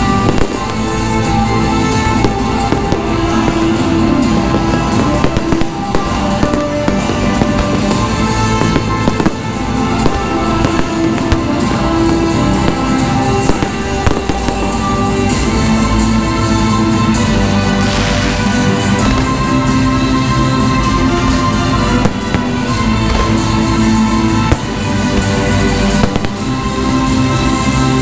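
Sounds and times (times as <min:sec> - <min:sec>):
fireworks bangs and crackling: 0:00.0 - 0:28.0
music: 0:00.0 - 0:28.0.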